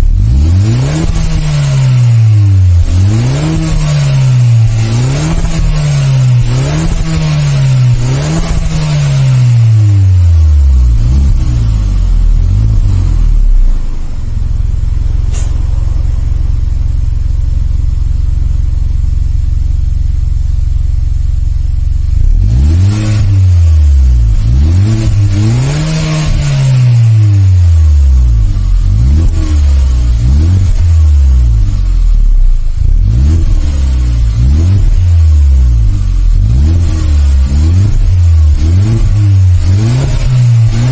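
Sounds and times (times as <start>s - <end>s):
car engine idling: 0.0s - 40.9s
car engine revving: 0.0s - 40.9s.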